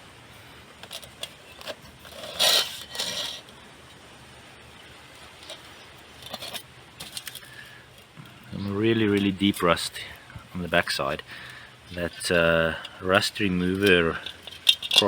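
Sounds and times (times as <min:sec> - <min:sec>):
scraping rustles: 0:00.4 - 0:04.0, 0:05.1 - 0:15.0.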